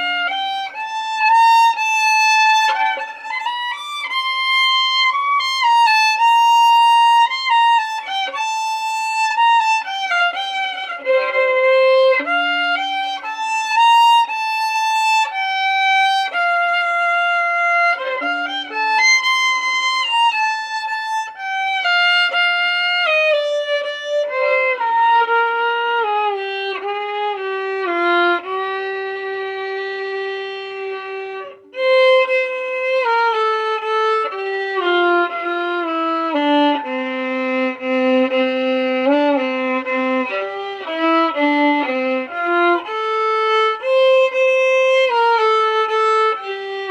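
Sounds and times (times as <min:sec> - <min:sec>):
violin melody: 0:00.0 - 0:46.9.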